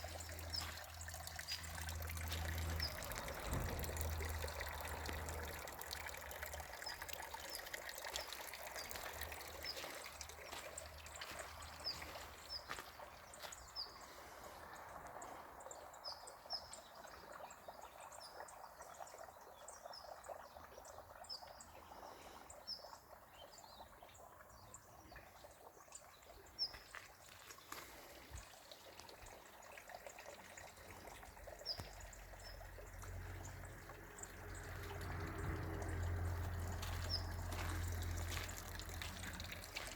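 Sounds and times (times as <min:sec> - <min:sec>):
water trickling down cascade: 0:00.0 - 0:39.9.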